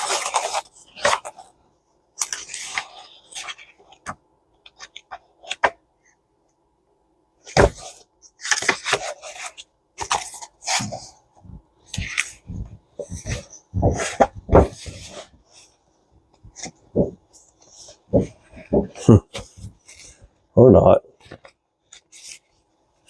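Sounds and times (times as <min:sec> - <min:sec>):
paper sheets rustling: 0:00.0 - 0:01.6, 0:02.2 - 0:05.8, 0:07.5 - 0:20.3, 0:21.2 - 0:22.6.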